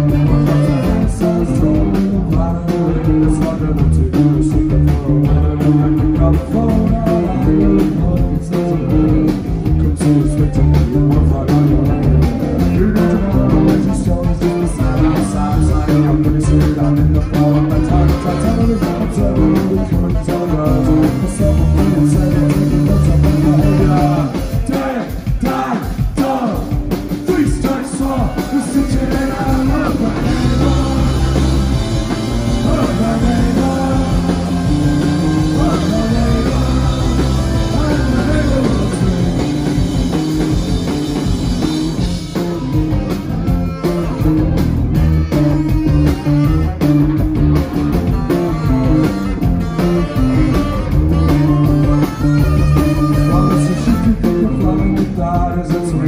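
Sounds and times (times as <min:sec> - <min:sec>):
saxophone: 0:00.0 - 0:09.6, 0:10.2 - 0:24.6, 0:28.0 - 0:55.7
person singing: 0:00.0 - 0:40.8, 0:48.3 - 0:56.0
live rock band playing: 0:00.0 - 0:56.0.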